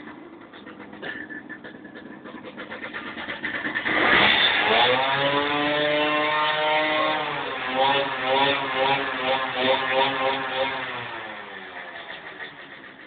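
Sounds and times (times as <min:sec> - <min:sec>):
moped engine revving: 0:00.0 - 0:13.0.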